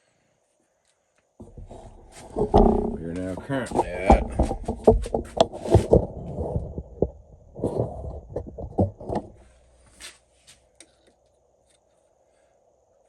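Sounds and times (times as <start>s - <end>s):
faint workshop hum: 0.0s - 13.0s.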